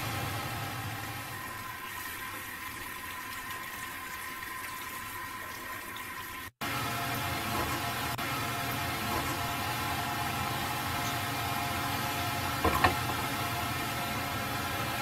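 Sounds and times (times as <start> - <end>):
liquid boiling in a saucepan: 0.0 - 15.0.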